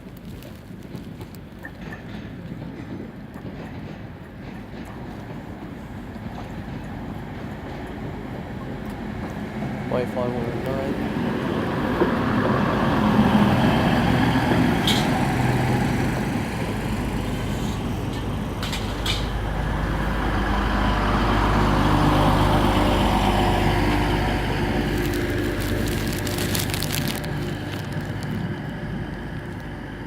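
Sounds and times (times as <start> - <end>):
diesel train engine running: 3.5 - 30.0.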